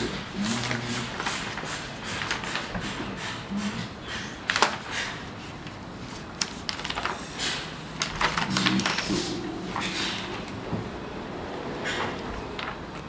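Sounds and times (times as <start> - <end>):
background noise: 0.0 - 13.0.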